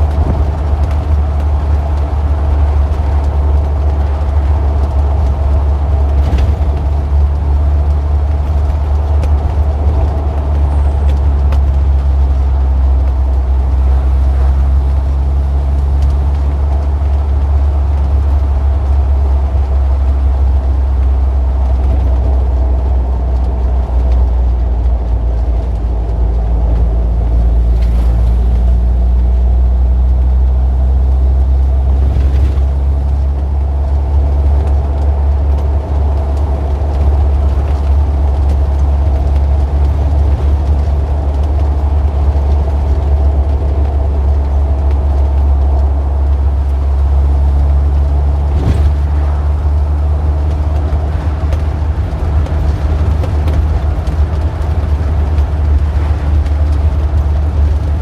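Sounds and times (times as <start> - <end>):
traffic engine rumble: 0.0 - 58.0.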